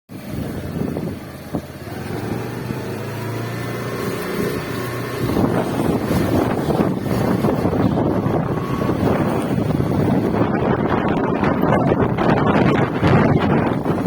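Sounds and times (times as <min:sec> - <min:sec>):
wind noise on microphone: 0:00.1 - 0:14.0.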